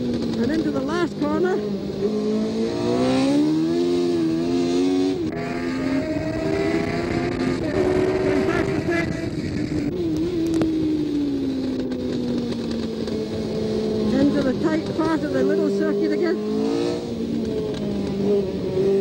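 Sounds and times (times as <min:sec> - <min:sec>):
racing engine at speed: 0:00.0 - 0:19.0.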